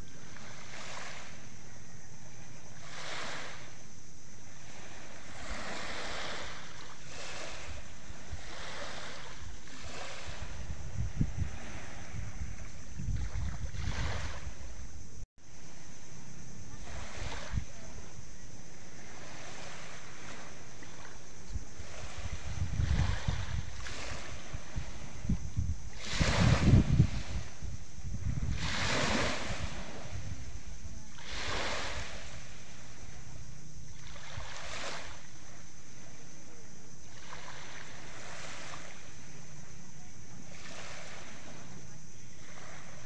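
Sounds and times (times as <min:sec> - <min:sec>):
wind buffeting microphone: 0:00.0 - 0:15.2, 0:16.3 - 0:36.0
small waves lapping on shore: 0:00.0 - 0:43.0
surf hiss: 0:00.0 - 0:43.0.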